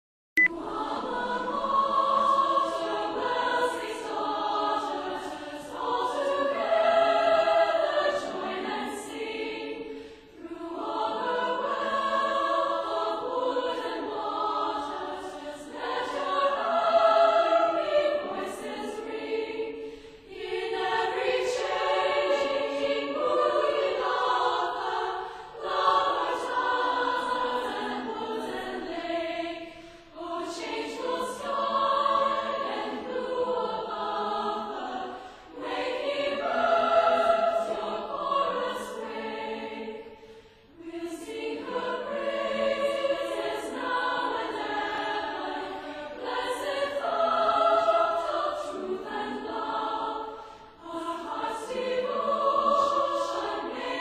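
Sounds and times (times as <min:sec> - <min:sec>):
choir singing: 0:00.4 - 0:54.0.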